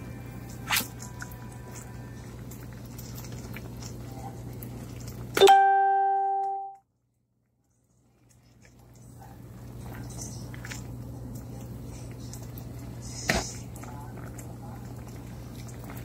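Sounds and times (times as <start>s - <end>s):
broth simmering with small pops: 0.4s - 5.4s, 7.0s - 16.0s.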